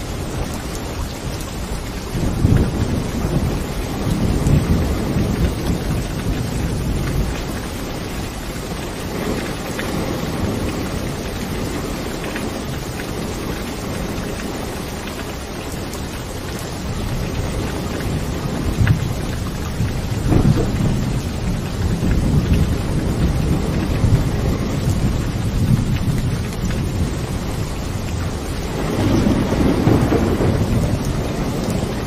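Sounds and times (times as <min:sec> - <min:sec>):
steady rain: 0:00.0 - 0:32.0
thunder rumbling: 0:00.0 - 0:32.0.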